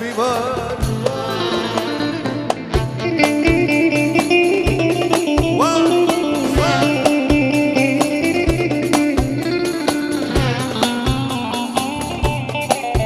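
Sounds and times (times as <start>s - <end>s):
steady drum beat: 0.0s - 13.0s
melody with sliding notes: 1.2s - 13.0s.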